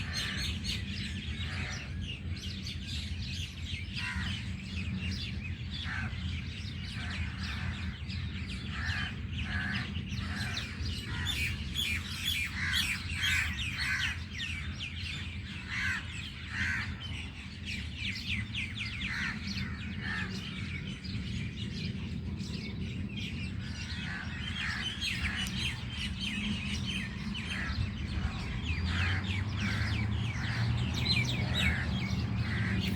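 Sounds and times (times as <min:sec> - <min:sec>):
flock of birds chirping: 0:00.0 - 0:32.9.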